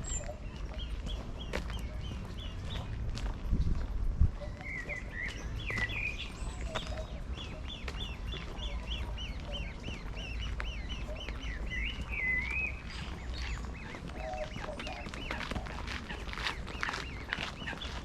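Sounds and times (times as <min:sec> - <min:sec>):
bird calling: 0:00.0 - 0:02.9, 0:04.4 - 0:18.0
wind rumbling on microphone: 0:00.0 - 0:18.0.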